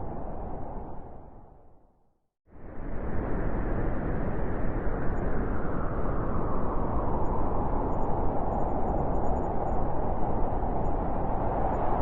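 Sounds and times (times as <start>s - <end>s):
howling blizzard wind: 0.0s - 1.9s, 2.5s - 12.0s.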